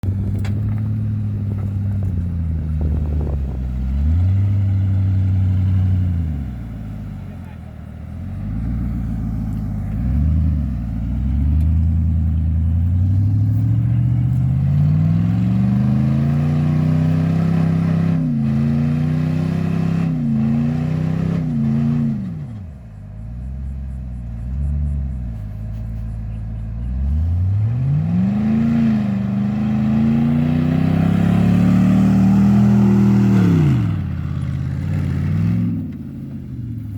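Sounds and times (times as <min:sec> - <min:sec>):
truck engine revving: 0:00.0 - 0:36.9.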